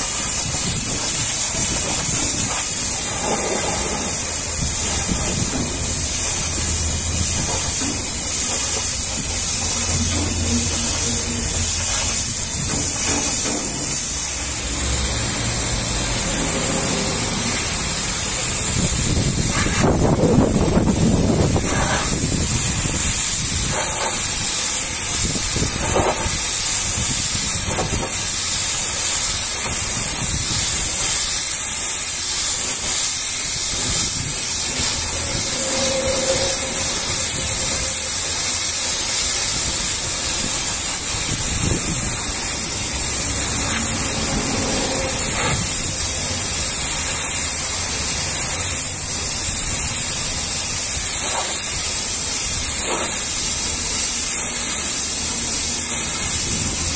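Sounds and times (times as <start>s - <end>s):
pressure washer spraying hiss: 0.0s - 56.9s.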